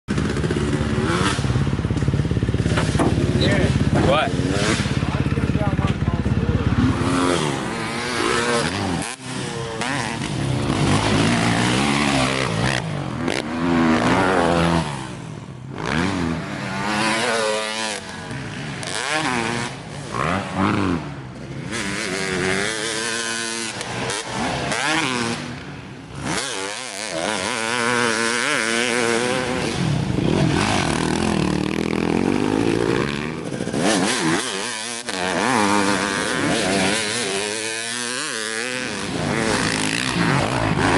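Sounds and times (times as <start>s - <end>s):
dirt bike engine revving: 0.1s - 40.9s.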